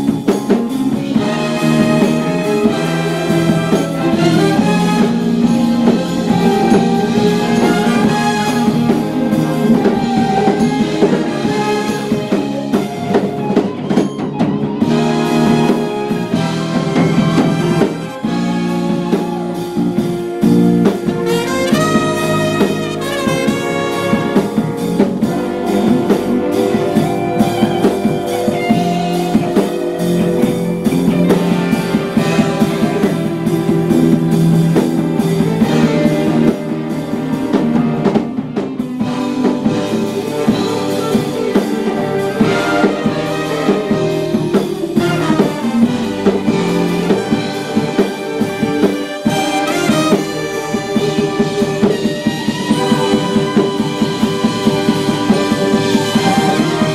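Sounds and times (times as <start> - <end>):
trombones and trumpets: 0.0 - 13.6, 14.8 - 56.9
drum kit: 0.0 - 56.9
jazz ensemble playing: 0.0 - 56.9.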